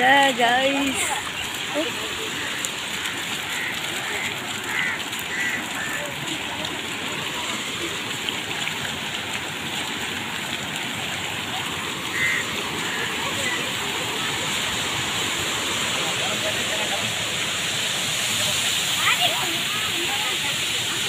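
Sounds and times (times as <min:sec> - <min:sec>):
water tumbling down cascade: 0:00.0 - 0:21.0.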